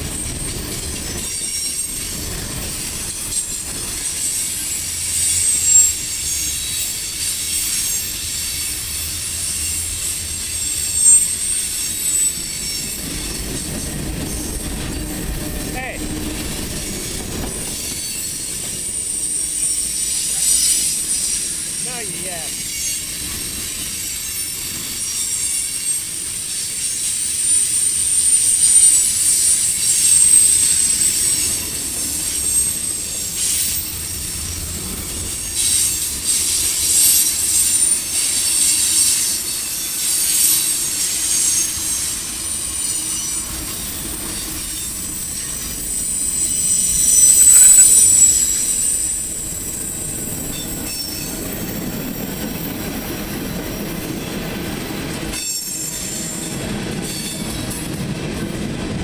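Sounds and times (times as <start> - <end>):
rumble of rolling train cars: 0.0 - 59.0
train wheels squealing: 0.0 - 59.0.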